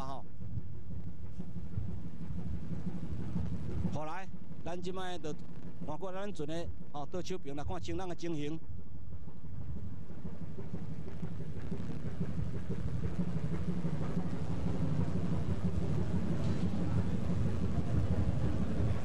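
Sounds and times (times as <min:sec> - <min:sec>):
low rumble aboard a boat: 0:00.0 - 0:19.0.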